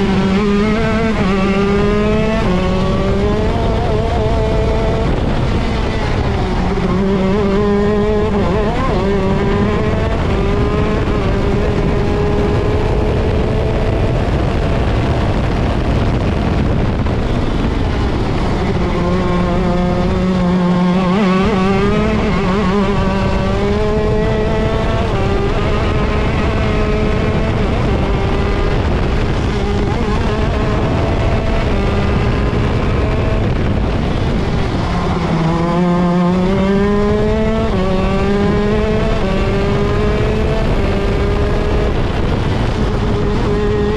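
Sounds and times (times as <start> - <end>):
kart engine racing: 0.0 - 43.9.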